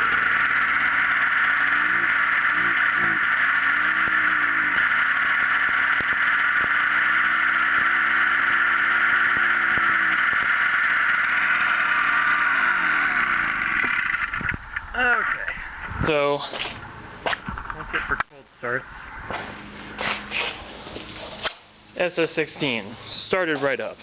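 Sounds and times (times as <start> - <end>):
leaf blower engine running: 0.0 - 17.2, 19.0 - 24.0
leaf blower fan rushing: 0.0 - 18.1, 19.0 - 24.0.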